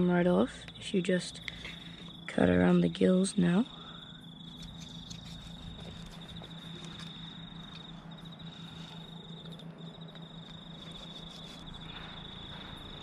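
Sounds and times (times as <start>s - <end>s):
insect trilling: 0.9s - 13.0s.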